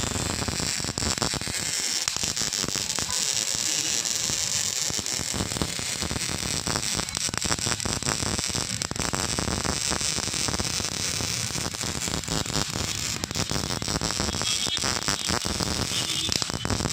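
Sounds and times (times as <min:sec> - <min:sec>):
welding arc crackling: 0:00.0 - 0:16.9.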